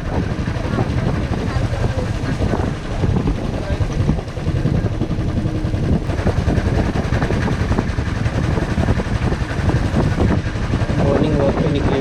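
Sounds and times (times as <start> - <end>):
motorcycle engine: 0.0 - 12.0
wind rumble: 0.0 - 12.0.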